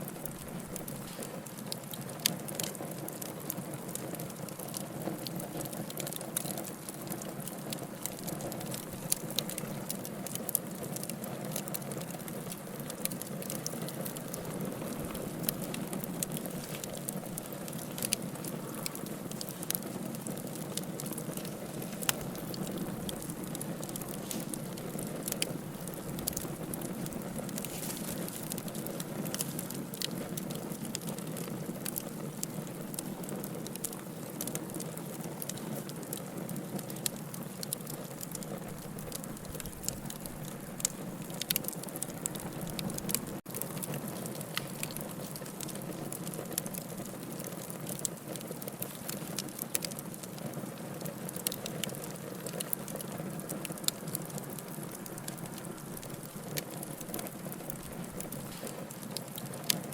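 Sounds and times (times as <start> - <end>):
burning wood popping: 0.0 - 59.9
campfire crackling: 0.0 - 59.9.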